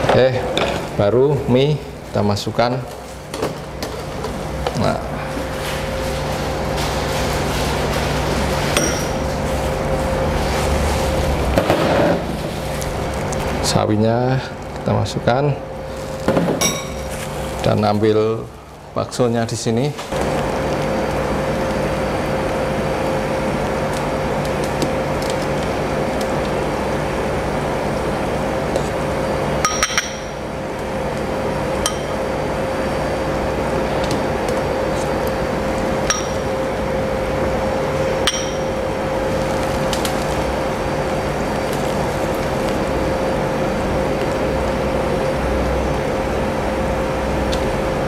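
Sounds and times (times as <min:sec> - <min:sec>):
broth boiling hum and hiss: 0:00.0 - 0:48.0.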